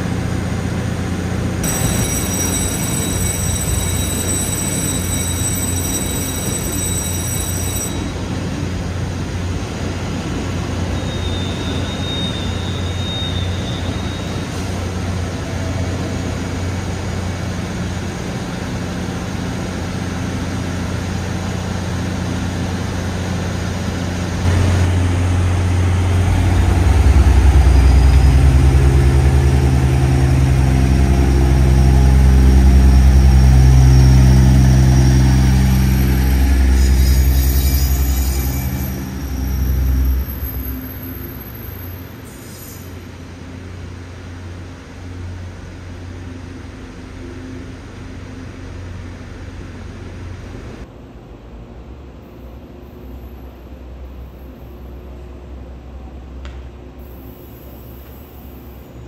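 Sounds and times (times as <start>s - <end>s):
diesel train engine: 0.0s - 59.0s.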